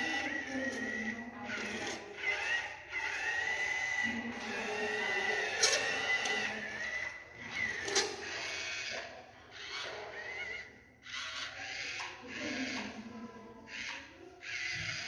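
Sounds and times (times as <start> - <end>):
small gear motors whining: 0.0 - 15.0.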